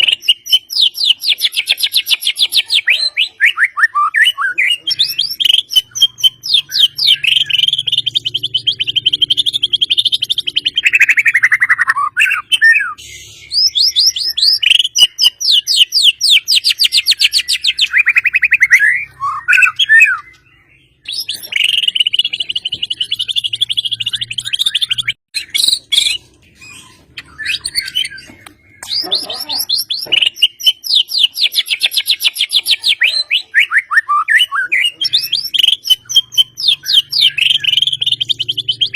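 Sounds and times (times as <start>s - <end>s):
songbird trilling: 0.0s - 38.9s.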